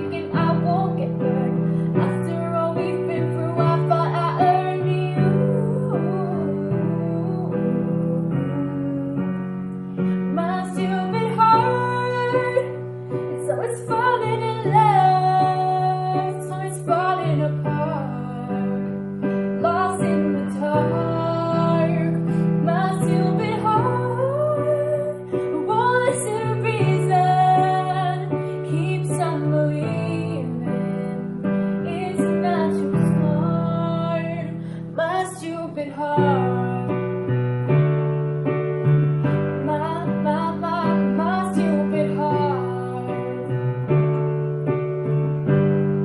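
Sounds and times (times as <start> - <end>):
woman singing: 0.0 - 37.4, 39.2 - 43.9.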